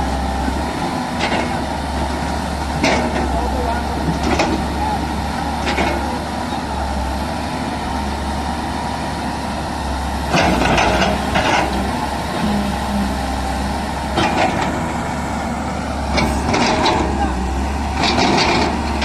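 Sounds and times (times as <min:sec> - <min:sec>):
diesel machine engine running: 0:00.0 - 0:19.0.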